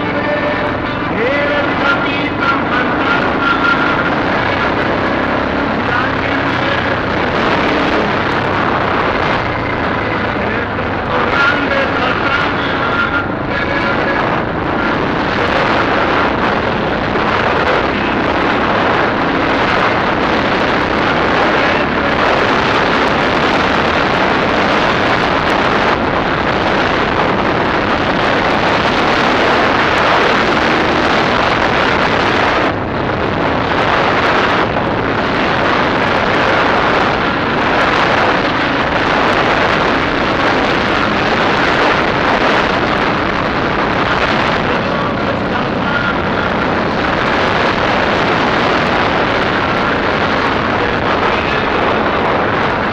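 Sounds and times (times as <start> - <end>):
dirt bike engine running: 0.0 - 52.9
wind noise on microphone: 0.0 - 52.9.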